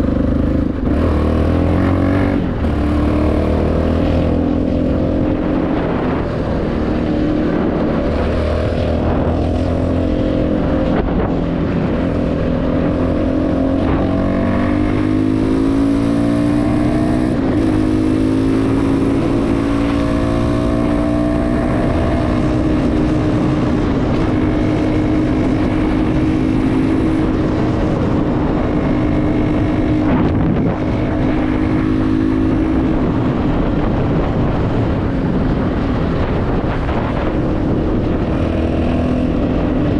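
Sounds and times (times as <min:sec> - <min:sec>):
low wind rumble: 0:00.0 - 0:39.9
motorcycle engine accelerating: 0:00.0 - 0:39.9.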